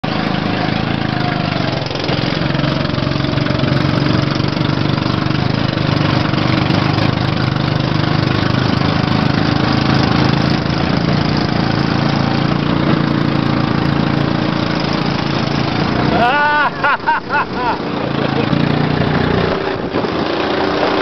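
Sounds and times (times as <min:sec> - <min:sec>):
go-kart engines droning: 0:00.0 - 0:21.0.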